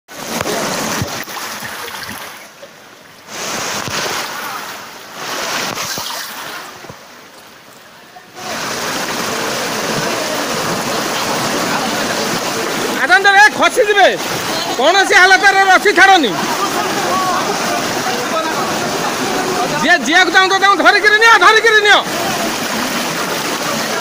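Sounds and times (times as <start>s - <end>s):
floodwater rushing and churning: 0.1s - 24.0s.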